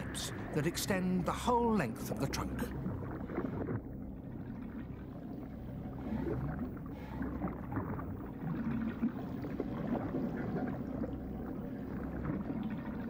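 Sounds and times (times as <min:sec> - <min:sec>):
water gurgling through tube: 0:00.0 - 0:13.0.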